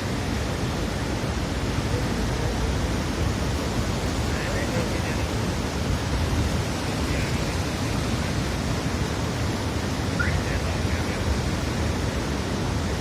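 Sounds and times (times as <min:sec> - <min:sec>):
river floodwater rushing: 0:00.0 - 0:13.0.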